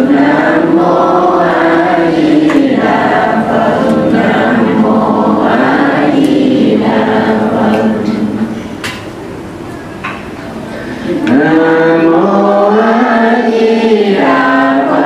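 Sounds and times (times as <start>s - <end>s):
many voices chanting: 0.0s - 8.6s, 11.0s - 15.0s.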